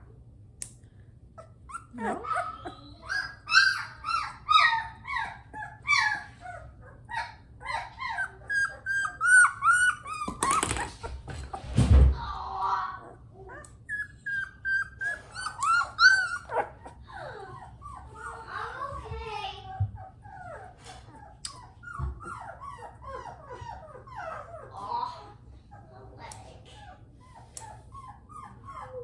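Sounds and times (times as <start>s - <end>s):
puppy whining and yelping: 1.3s - 11.8s, 13.0s - 29.0s.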